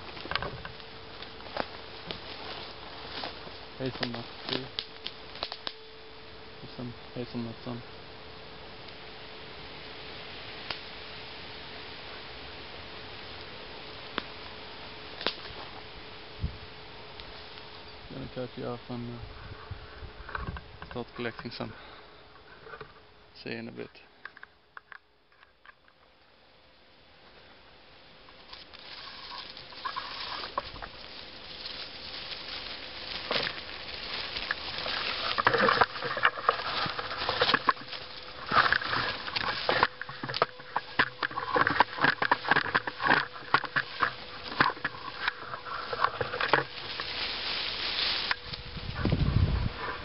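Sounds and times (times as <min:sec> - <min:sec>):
dry leaves and twigs crackling: 0:00.0 - 0:50.0.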